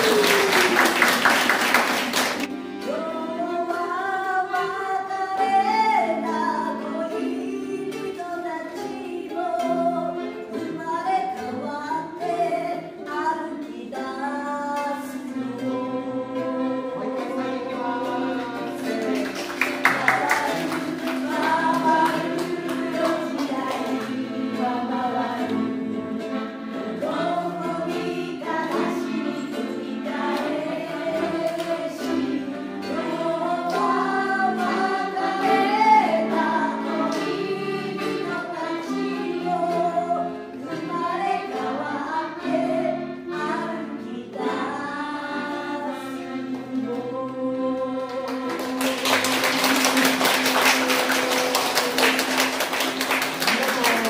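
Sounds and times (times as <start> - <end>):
group singing with instruments: 0.0 - 54.0.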